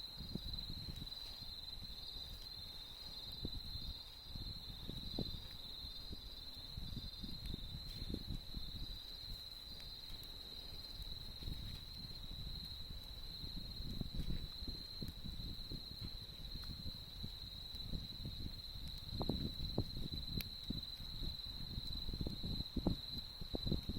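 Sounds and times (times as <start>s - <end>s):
campfire crackling and popping: 0.0s - 23.9s
insects trilling: 0.0s - 23.9s.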